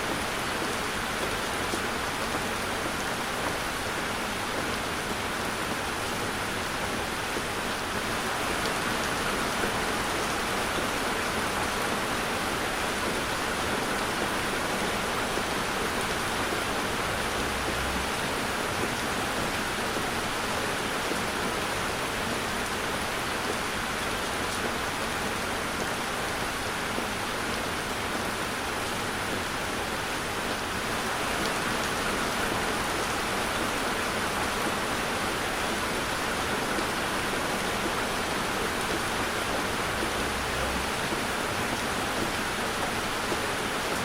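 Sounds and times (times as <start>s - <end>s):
heavy rain on a car: 0.0s - 44.0s.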